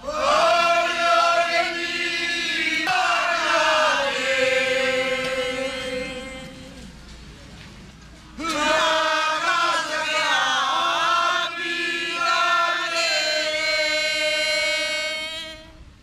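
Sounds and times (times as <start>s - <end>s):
group singing a chant in unison: 0.0s - 6.8s, 8.4s - 15.7s.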